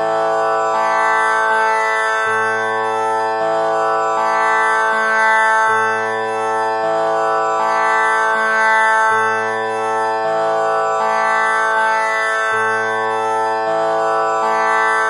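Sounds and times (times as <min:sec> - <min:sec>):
tanpura drone: 0:00.0 - 0:15.0.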